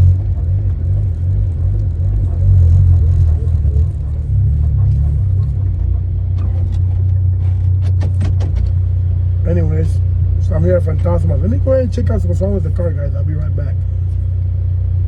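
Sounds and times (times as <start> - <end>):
car engine drone in cabin: 0.0 - 15.0.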